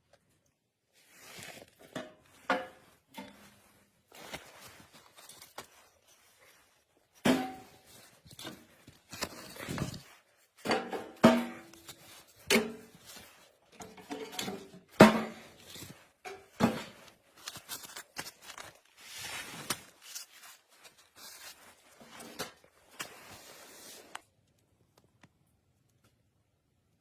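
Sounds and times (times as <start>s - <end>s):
scraping and rustling: 0.9s - 24.3s.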